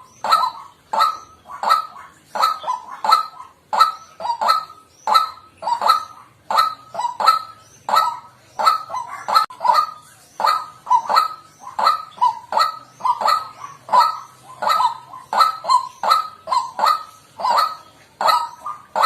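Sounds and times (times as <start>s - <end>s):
bird giving harsh croaking calls: 0.0s - 19.0s.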